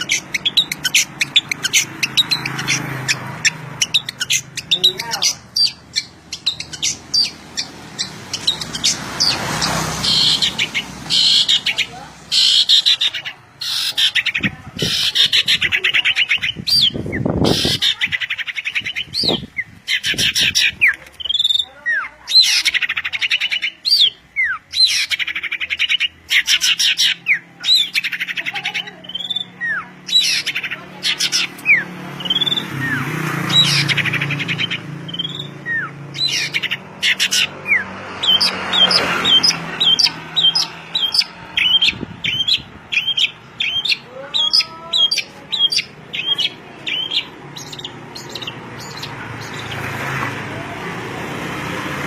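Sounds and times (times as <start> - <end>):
songbirds chirping and singing: 0.0 - 50.4.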